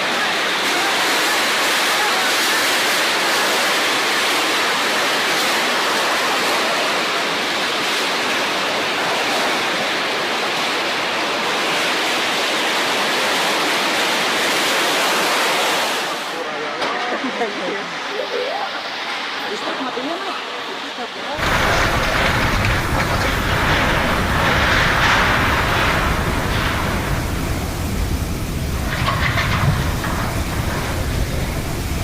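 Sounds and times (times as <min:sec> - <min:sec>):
heavy rain: 0:00.0 - 0:32.0
strong wind: 0:00.0 - 0:32.0.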